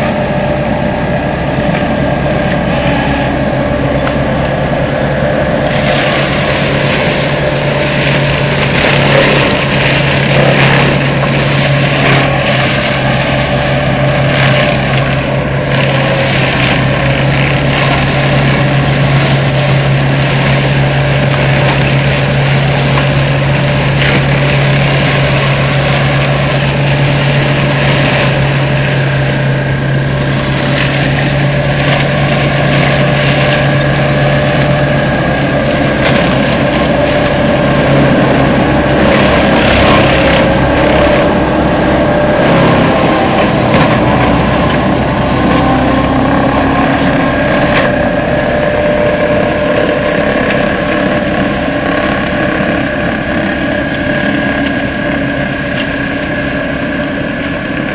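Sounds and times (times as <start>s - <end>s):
engine running steadily: 0.0s - 57.9s
hydraulic mulcher rushing: 0.0s - 57.9s.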